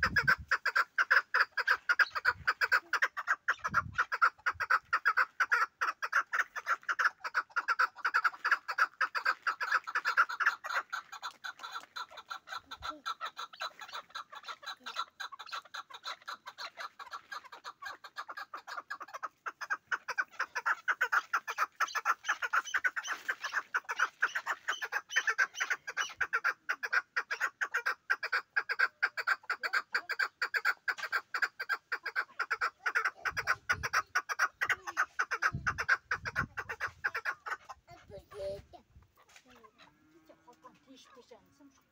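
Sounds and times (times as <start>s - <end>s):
partridge calling: 0.0s - 39.9s.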